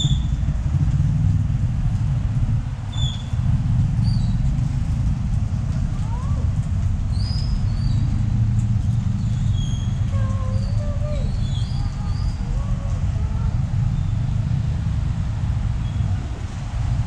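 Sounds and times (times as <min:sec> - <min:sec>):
low rumble of passing traffic: 0:00.0 - 0:17.0.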